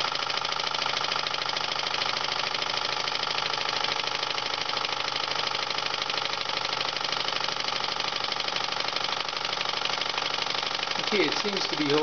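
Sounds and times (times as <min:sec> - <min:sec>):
model steam engine chuffing: 0:00.0 - 0:12.0.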